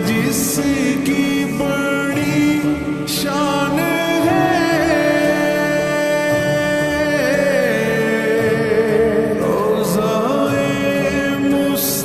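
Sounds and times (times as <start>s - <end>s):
reverberant voice singing: 0.0s - 12.0s.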